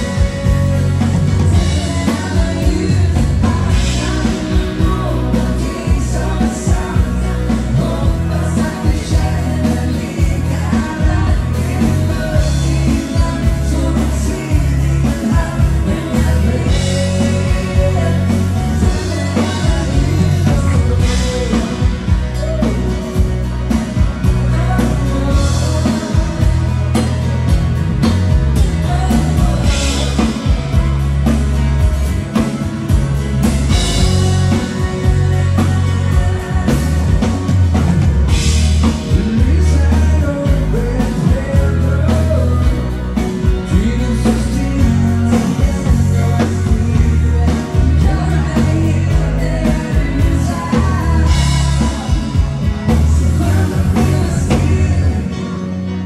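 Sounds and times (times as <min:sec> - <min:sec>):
bass: 0:00.0 - 0:56.0
electric guitar: 0:00.0 - 0:56.0
person singing: 0:00.0 - 0:56.0.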